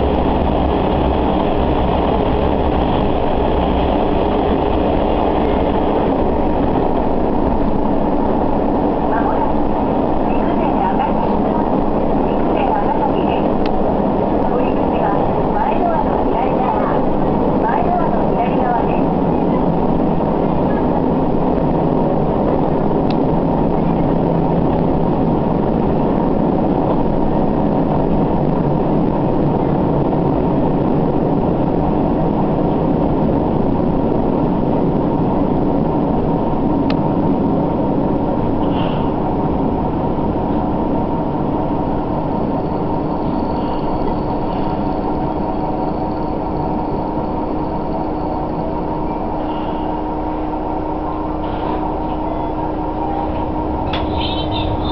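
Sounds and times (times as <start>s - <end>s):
diesel railcar engine running: 0.0s - 54.9s
wheels rumbling on rails: 0.0s - 54.9s.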